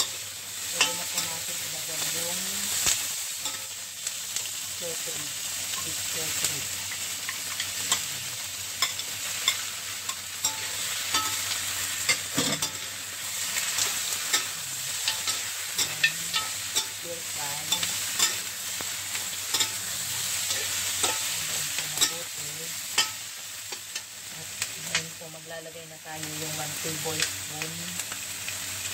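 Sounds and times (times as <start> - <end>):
meat and onions sizzling in oil: 0.0 - 28.9.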